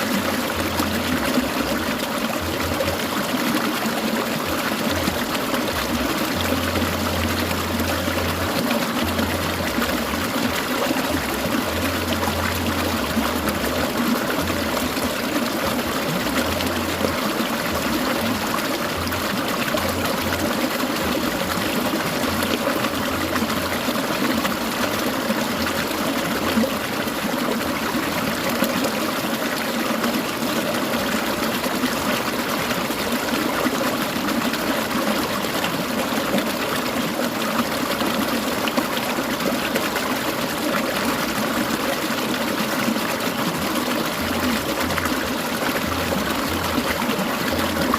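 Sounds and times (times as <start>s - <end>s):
stream trickling and babbling: 0.0s - 47.9s.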